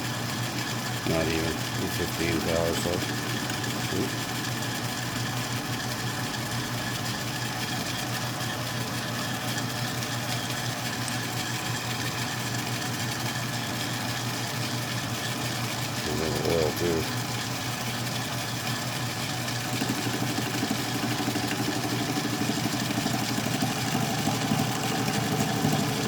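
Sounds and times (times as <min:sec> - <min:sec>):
metal lathe humming: 0:00.0 - 0:26.0.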